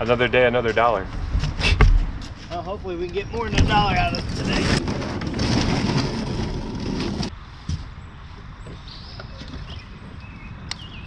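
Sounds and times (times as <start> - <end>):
vehicle road noise: 0.0 - 11.0.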